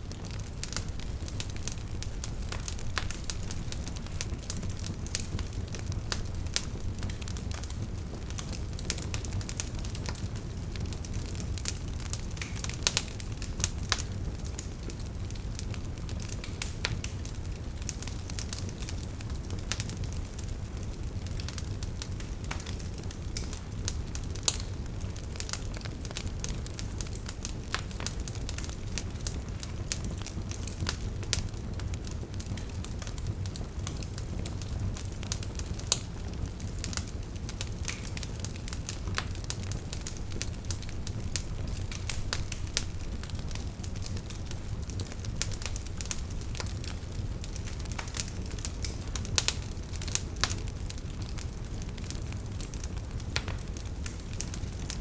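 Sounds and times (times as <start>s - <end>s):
campfire rumbling: 0.0s - 55.0s
firewood crackling and popping: 0.0s - 55.0s.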